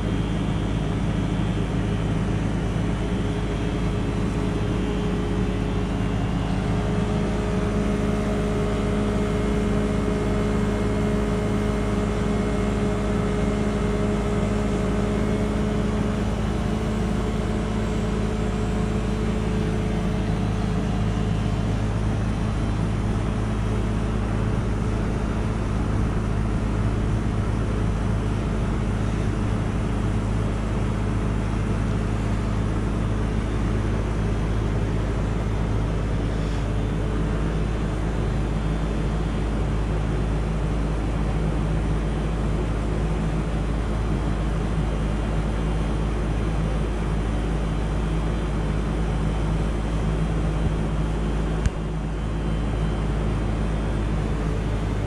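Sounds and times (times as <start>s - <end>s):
heat pump compressor humming: 0.0s - 55.0s.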